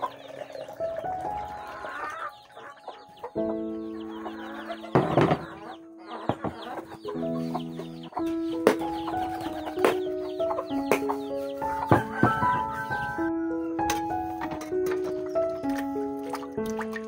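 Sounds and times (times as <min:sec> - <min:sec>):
background music of held notes: 0:00.0 - 0:17.0
chickens peeping and clucking: 0:00.0 - 0:17.0.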